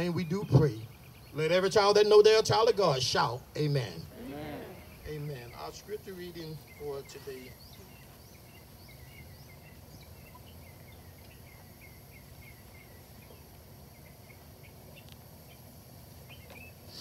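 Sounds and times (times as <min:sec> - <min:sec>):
birds chirping: 0:00.0 - 0:17.0
low steady rumble: 0:00.0 - 0:17.0.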